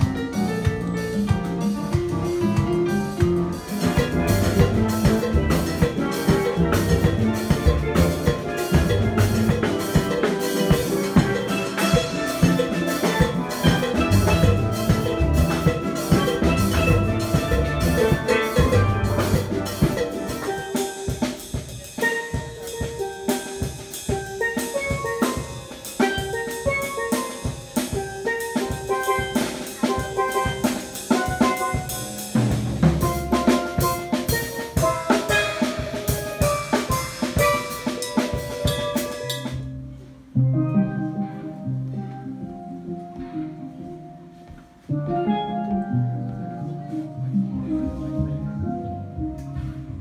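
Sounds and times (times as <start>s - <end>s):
drum kit beat: 0.0s - 40.4s
steel pan ensemble playing: 0.0s - 50.0s.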